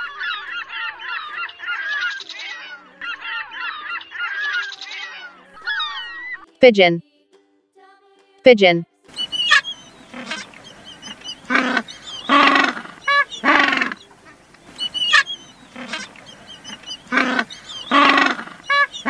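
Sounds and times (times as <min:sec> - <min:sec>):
birds honking: 0:00.0 - 0:06.4, 0:09.1 - 0:19.0
high bird chirps: 0:00.0 - 0:06.4, 0:09.1 - 0:19.0.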